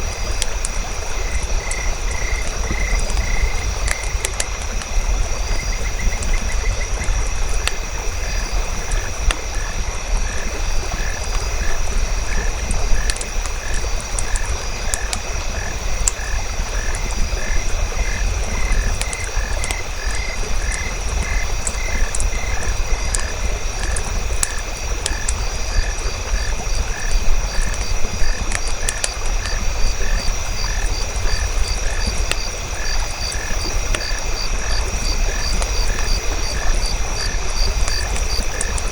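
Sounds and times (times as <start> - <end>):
insect trill: 0.0 - 38.9
wood fire crackling: 0.0 - 38.9
frogs calling: 0.1 - 38.9.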